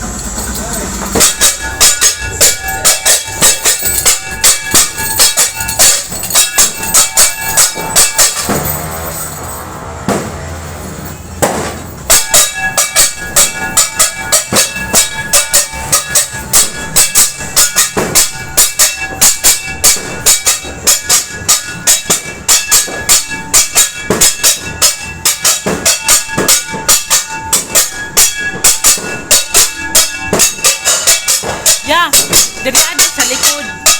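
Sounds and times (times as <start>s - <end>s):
metal banging and ringing: 0.0s - 33.9s.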